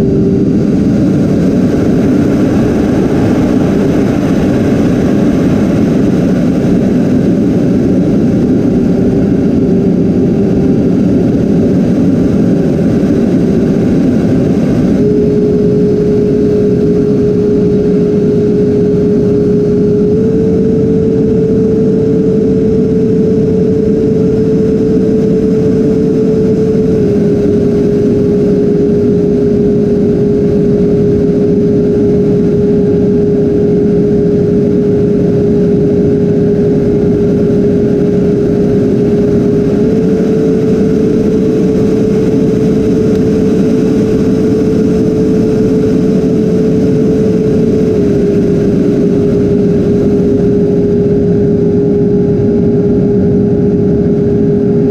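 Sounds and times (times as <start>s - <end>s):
electric ducted fans whining: 0.0s - 54.9s.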